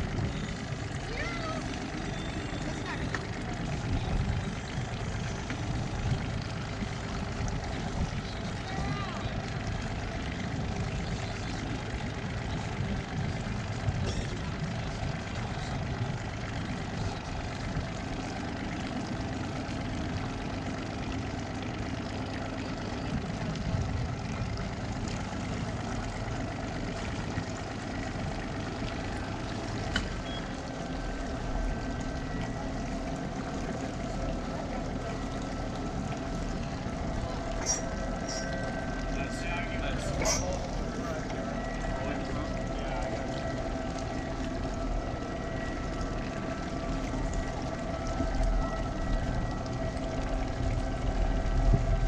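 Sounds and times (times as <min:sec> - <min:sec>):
boat engine idling: 0:00.0 - 0:52.0.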